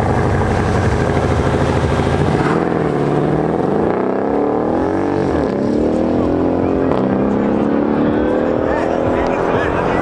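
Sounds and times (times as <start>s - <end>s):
car engines revving and accelerating: 0.0s - 10.0s.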